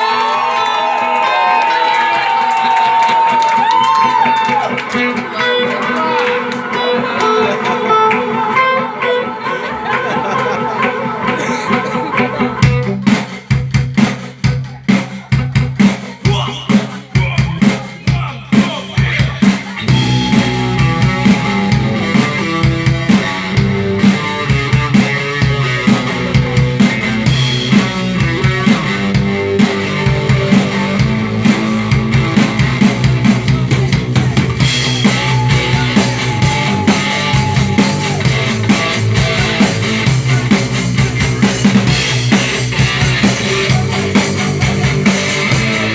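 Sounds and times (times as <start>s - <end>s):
rock band playing: 0.0s - 45.9s.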